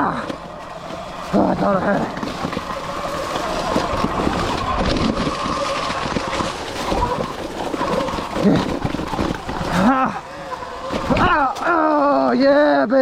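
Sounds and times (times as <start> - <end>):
chassis rattling and clattering: 0.0 - 12.6.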